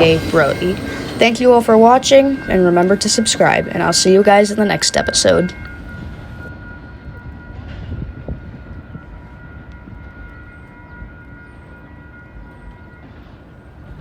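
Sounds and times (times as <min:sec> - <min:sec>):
freight train rumble: 0:00.0 - 0:14.0
thin steady whine: 0:00.0 - 0:14.0.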